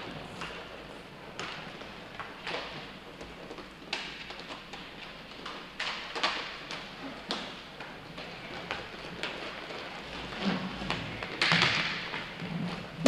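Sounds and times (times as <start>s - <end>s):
hockey sticks and puck clacking: 0.0s - 13.0s.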